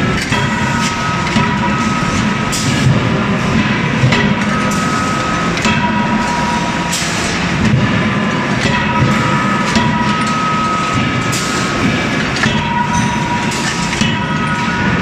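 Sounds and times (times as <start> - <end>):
forge machinery din: 0.0 - 15.0
machine whine: 0.0 - 15.0.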